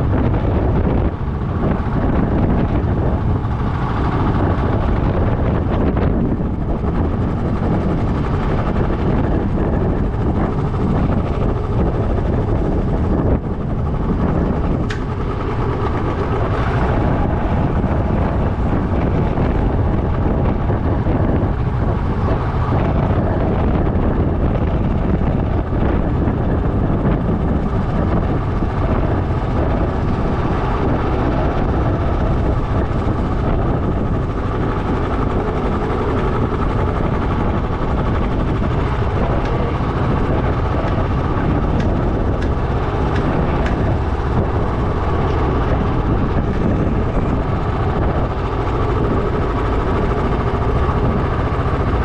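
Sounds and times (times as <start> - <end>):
motorcycle engine rumble: 0.0 - 52.0
wind rushing over microphone: 0.0 - 52.0.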